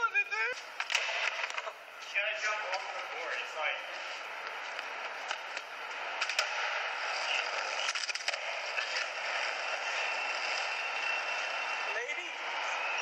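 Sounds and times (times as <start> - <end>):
tape hiss: 0.0 - 13.0
skateboard wheels rolling on concrete: 0.7 - 13.0.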